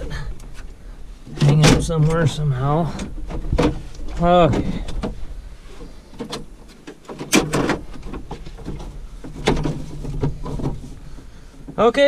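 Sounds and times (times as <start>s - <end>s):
metal clunks and scraping: 0.0s - 12.0s.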